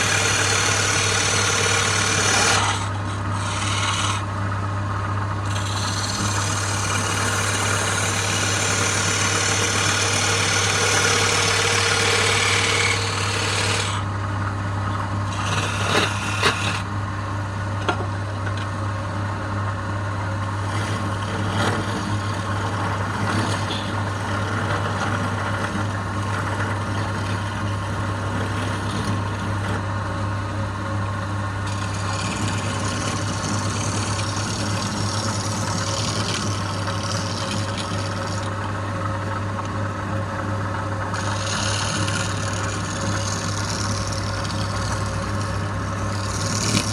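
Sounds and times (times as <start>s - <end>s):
tool scraping spinning wood: 0.0s - 14.1s, 15.2s - 16.9s, 20.6s - 46.9s
wood lathe motor hum: 0.0s - 14.2s, 14.9s - 17.0s, 20.2s - 46.9s.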